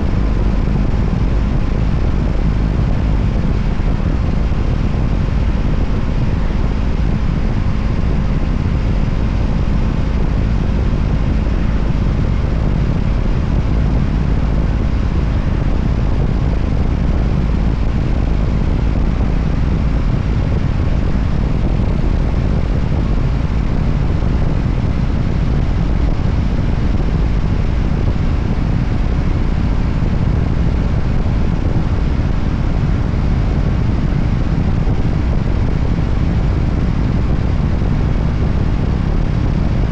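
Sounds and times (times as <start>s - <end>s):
motorcycle engine riding steadily: 0.0s - 39.9s.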